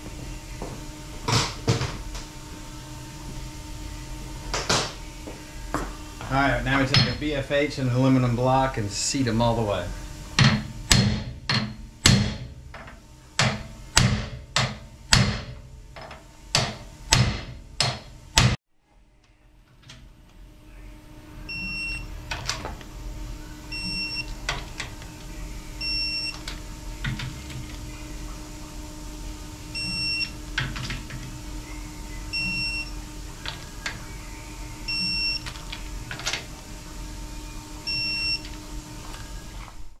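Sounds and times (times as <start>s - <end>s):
steady machine hum: 0.0s - 40.0s.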